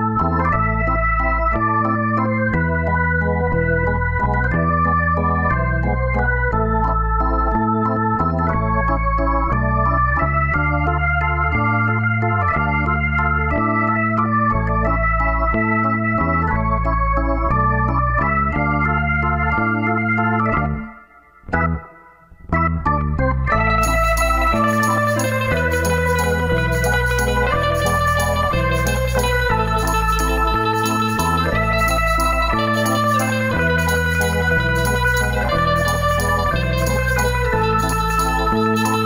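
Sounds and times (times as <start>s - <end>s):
bass line: 0.0s - 39.0s
electronic organ chords: 0.0s - 39.0s.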